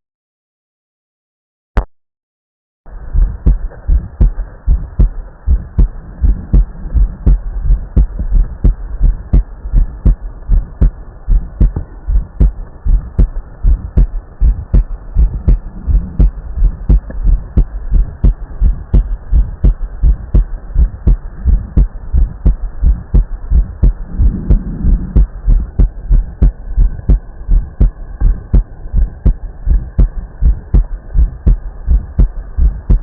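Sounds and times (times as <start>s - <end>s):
heartbeat thumps through stethoscope: 3.1s - 33.0s.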